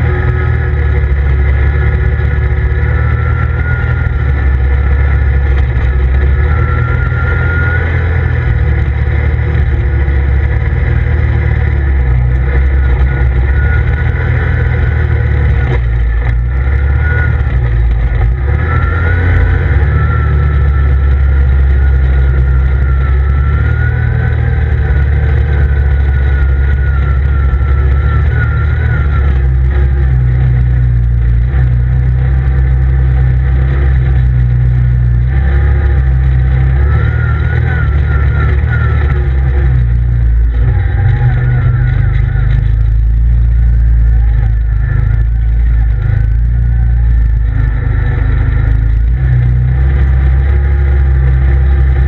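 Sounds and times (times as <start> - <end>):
engine rumbling with whine: 0.0 - 52.0.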